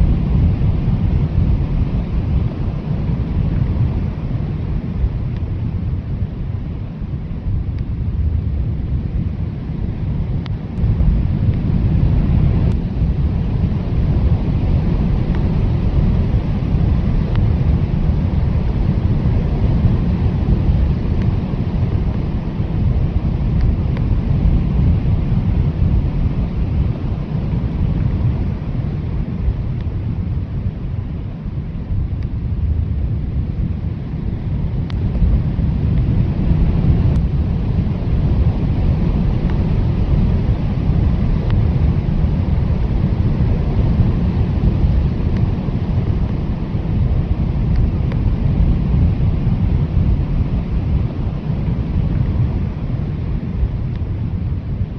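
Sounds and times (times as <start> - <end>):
blizzard wind blowing hard: 0.0 - 54.9.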